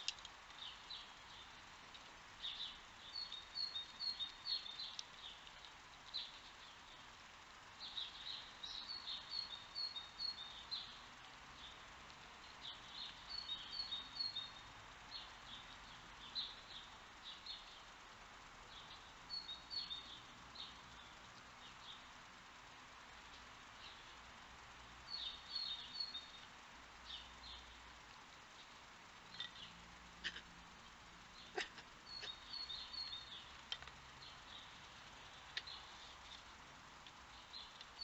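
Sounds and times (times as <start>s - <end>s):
faint steady hiss: 0.0s - 38.0s
songbirds chirping: 0.0s - 38.0s.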